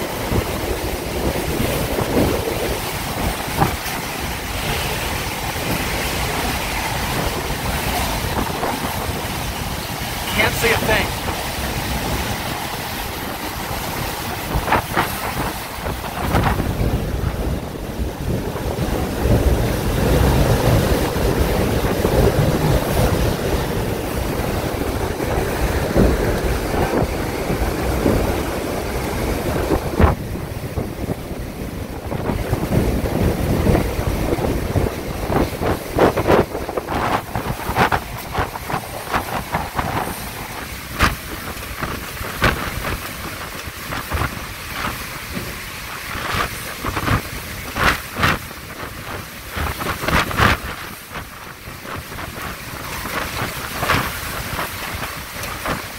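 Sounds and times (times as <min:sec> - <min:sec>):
driving rain: 0:00.0 - 0:55.9
hurricane winds: 0:00.0 - 0:55.9
wind buffeting microphone: 0:00.0 - 0:55.9.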